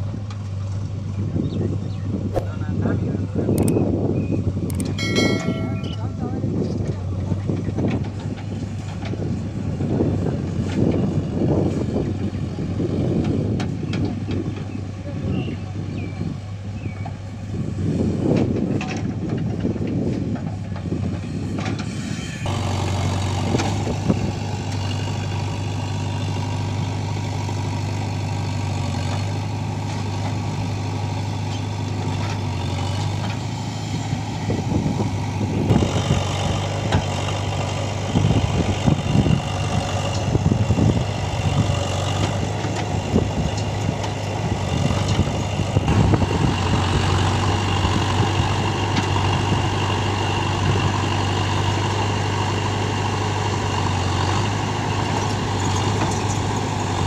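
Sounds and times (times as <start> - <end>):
diesel engines running: 0.0 - 57.0
loud uneven engine pulses: 0.0 - 57.0.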